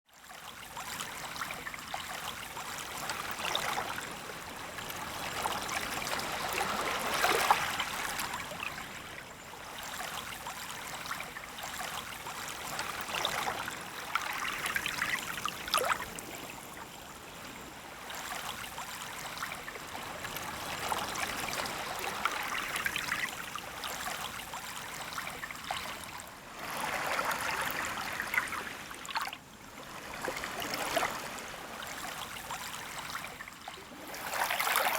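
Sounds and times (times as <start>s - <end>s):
gentle waves washing on sand: 0.6s - 34.9s.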